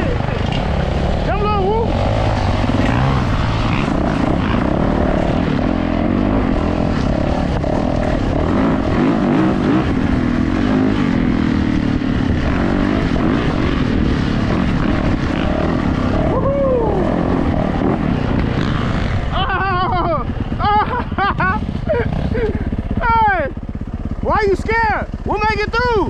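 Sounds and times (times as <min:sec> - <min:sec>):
wind noise: 0:00.0 - 0:23.0
dirt bike engine revving: 0:00.0 - 0:26.0.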